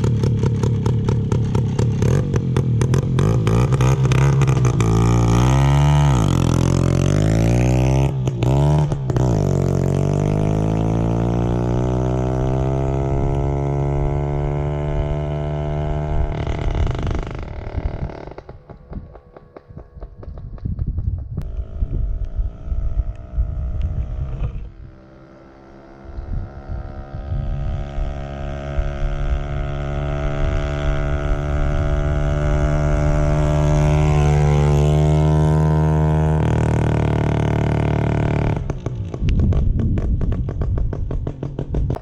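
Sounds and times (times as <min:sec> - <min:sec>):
two-stroke moped engine revving: 0:00.0 - 0:20.3, 0:21.4 - 0:42.0.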